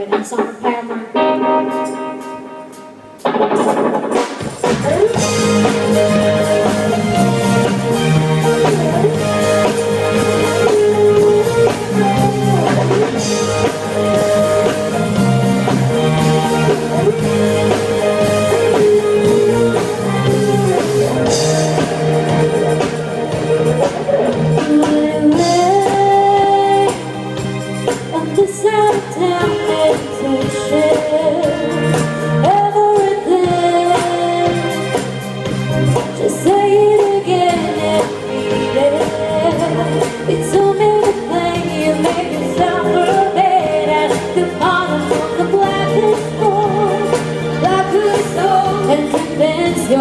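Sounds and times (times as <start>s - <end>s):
instrumental rock music: 0.0s - 50.0s.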